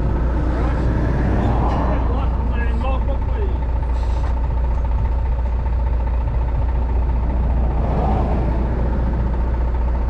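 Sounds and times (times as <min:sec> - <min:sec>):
truck engine drone: 0:00.0 - 0:10.0.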